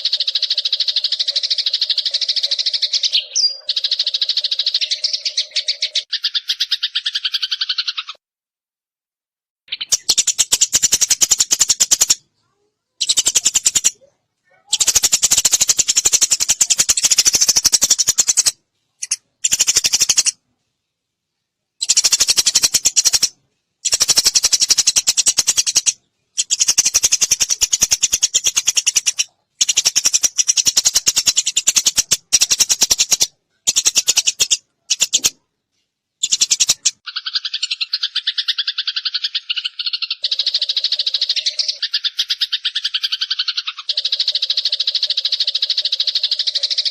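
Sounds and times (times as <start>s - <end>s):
sparrows chattering: 0.0s - 8.2s, 9.7s - 20.4s, 21.8s - 35.4s, 36.2s - 46.9s.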